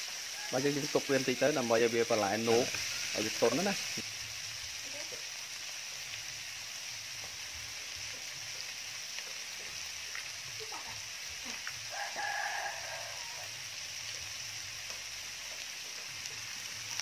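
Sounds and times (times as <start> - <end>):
meat and vegetables sizzling in pan: 0.0 - 17.0.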